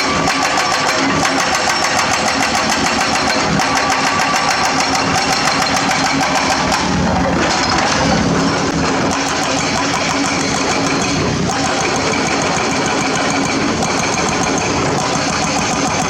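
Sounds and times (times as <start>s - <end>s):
diesel engine running: 0.0s - 16.0s
fast regular engine ticking: 0.0s - 16.0s.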